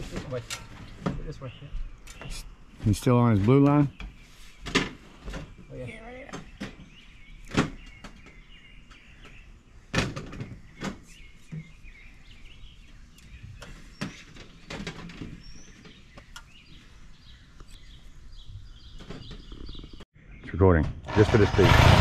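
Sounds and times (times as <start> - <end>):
birds chirping faintly: 0.0 - 21.4.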